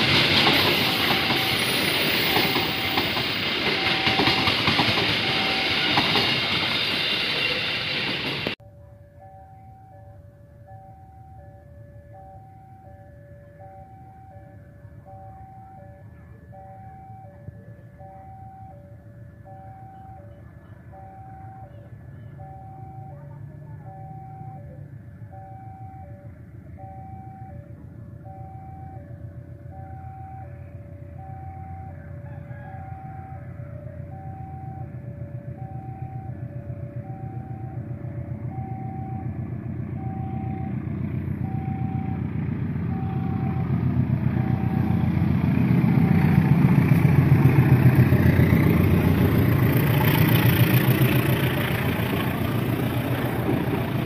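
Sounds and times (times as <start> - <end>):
diesel locomotive engine rumble: 0.0 - 54.0
level crossing warning tones: 0.0 - 54.0.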